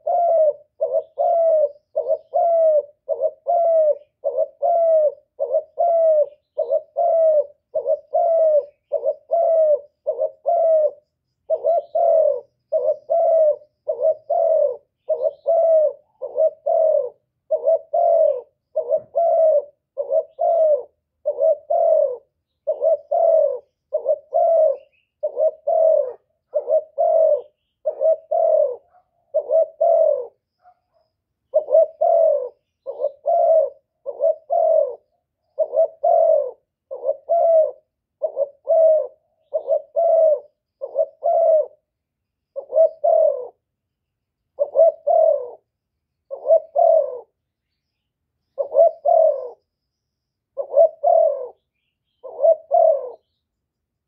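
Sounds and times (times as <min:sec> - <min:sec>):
dove cooing: 0:00.0 - 0:43.7, 0:44.5 - 0:47.4, 0:48.5 - 0:49.7, 0:50.5 - 0:53.4.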